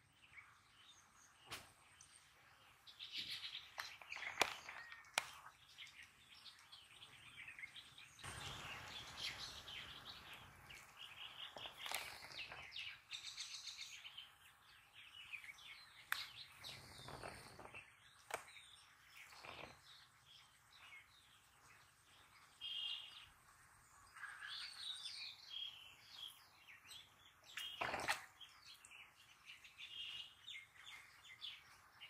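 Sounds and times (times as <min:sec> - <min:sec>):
small birds chirping and trilling: 0:00.0 - 0:32.0
soft outdoor hiss: 0:00.0 - 0:32.0.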